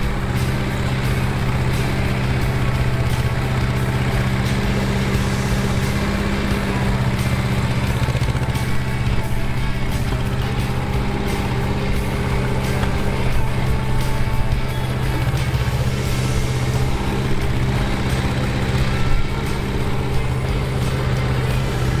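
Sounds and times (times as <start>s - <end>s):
small diesel engine running: 0.0s - 22.0s.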